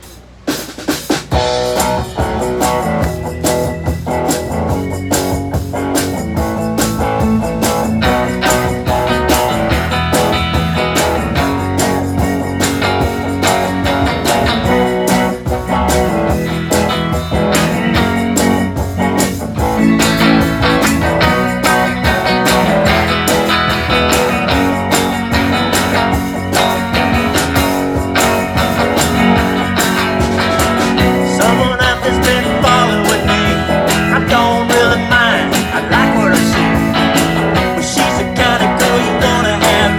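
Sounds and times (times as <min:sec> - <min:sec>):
live blues band playing: 0:00.0 - 0:39.9.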